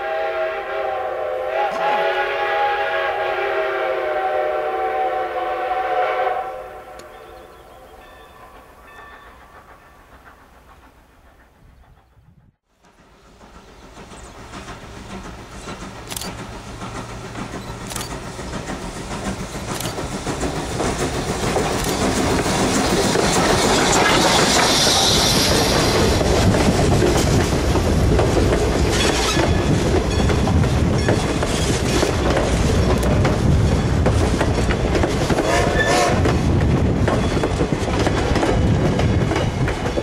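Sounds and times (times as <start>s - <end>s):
steam train rumble and clatter: 0.0s - 40.0s.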